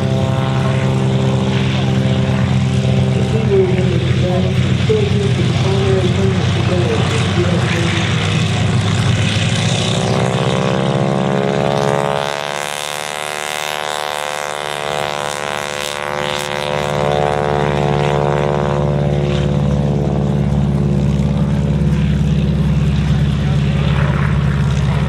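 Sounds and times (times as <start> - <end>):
low engine rumble: 0.0 - 25.0
propeller plane engine passing: 0.0 - 25.0.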